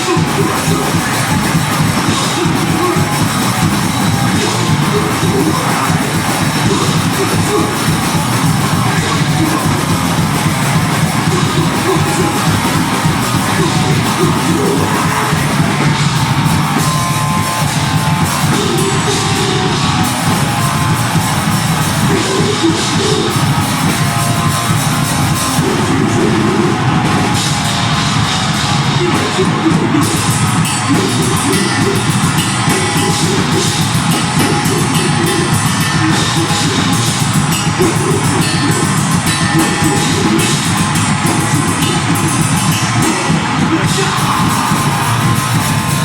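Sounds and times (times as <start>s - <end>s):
distorted guitars and bass: 0.0s - 46.0s
rapid drumming: 0.0s - 46.0s.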